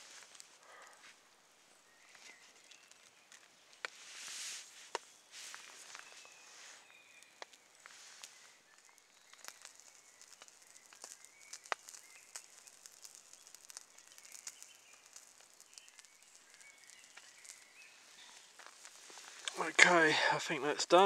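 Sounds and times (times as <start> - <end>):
wood fire coals crackling: 0.0 - 21.0.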